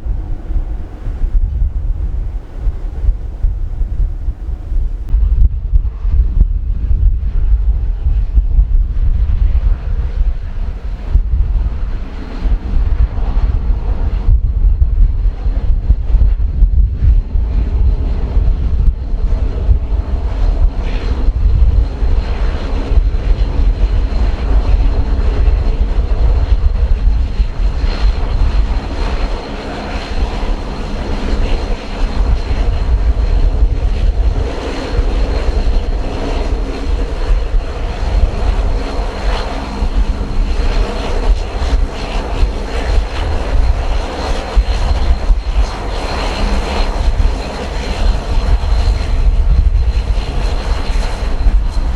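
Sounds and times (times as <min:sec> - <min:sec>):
airliner engines at takeoff: 0:00.0 - 0:51.9
wind buffeting microphone: 0:00.0 - 0:51.9.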